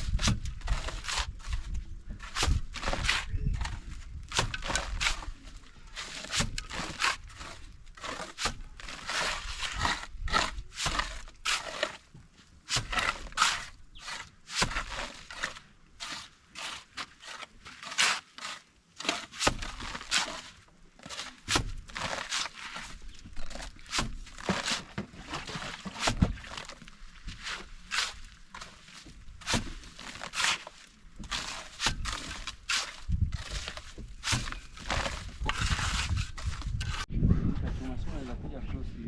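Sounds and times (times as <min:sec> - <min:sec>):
trowel scraping plaster: 0:00.0 - 0:12.1, 0:12.7 - 0:37.1.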